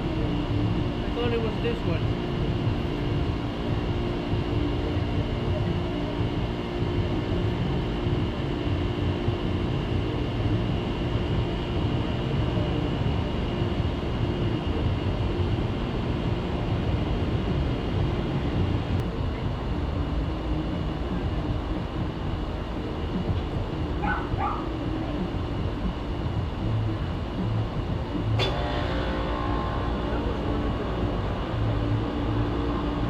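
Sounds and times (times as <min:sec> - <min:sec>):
condensing unit fans and compressors: 0:00.0 - 0:33.0
multi-tone hum: 0:00.0 - 0:33.0.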